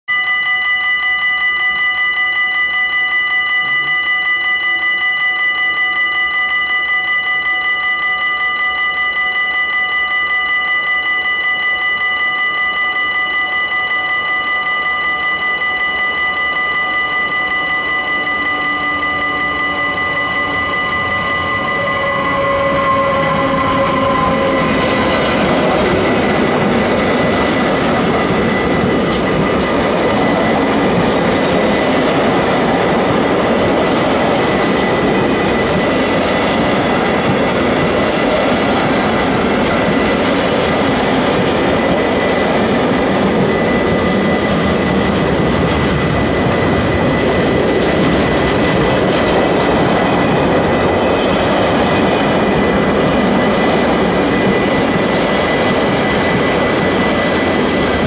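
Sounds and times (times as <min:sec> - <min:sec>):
approaching freight train: 0:00.1 - 0:58.0
level crossing warning bell: 0:00.1 - 0:58.0.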